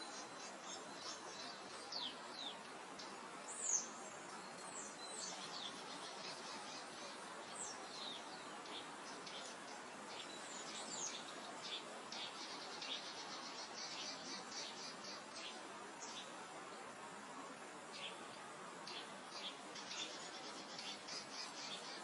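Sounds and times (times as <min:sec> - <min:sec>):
birds chirping: 0:00.0 - 0:16.4, 0:17.9 - 0:22.0
soft breeze: 0:00.0 - 0:22.0.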